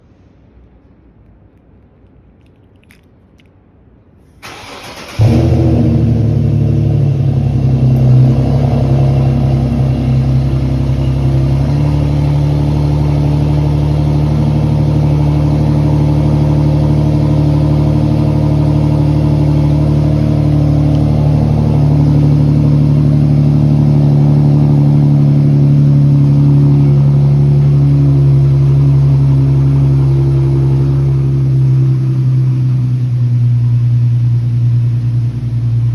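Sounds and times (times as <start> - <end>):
car engine cranking: 4.4 - 35.9
loud car engine idling: 4.5 - 35.9.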